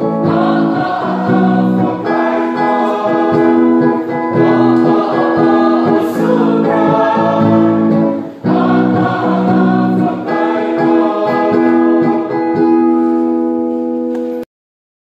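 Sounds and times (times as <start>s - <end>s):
choir singing a hymn: 0.0s - 13.2s.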